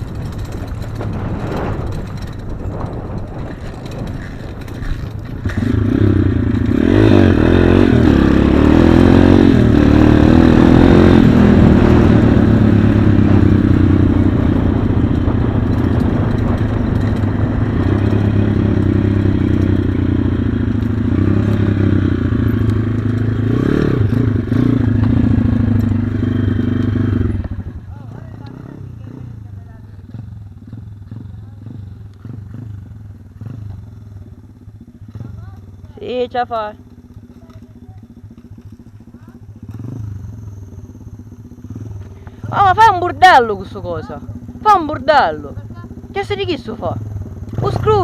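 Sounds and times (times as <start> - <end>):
pit bike engine revving: 0.0 - 48.0.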